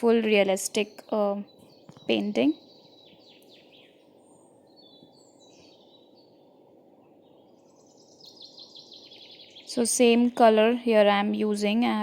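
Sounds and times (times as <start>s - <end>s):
bird chirps and calls: 0.0s - 12.0s
low steady hiss: 0.0s - 12.0s.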